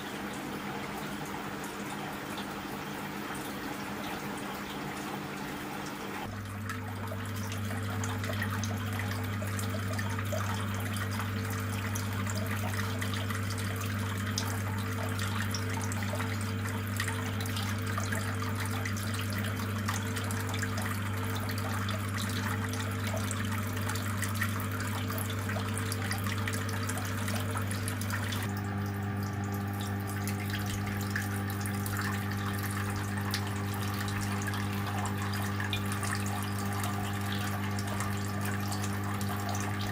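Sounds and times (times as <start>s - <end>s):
water pump humming: 0.0s - 39.9s
fountain water trickling: 6.2s - 39.9s.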